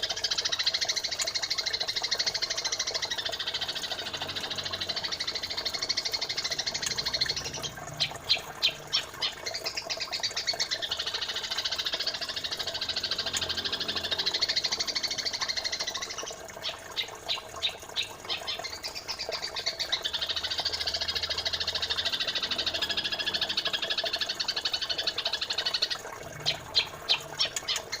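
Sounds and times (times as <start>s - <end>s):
high fast bird chatter: 0.0s - 28.0s.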